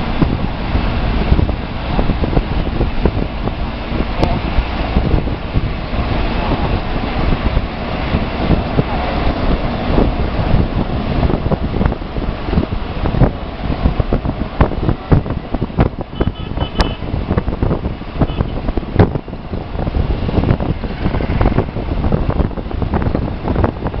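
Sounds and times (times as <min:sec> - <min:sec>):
bus road and engine noise: 0:00.0 - 0:24.0
wind buffeting microphone: 0:00.0 - 0:24.0.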